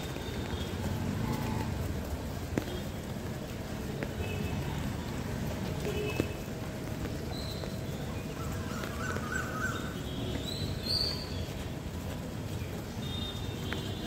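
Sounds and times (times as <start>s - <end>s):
distant traffic rumble: 0.0s - 14.0s
wind: 0.0s - 14.0s.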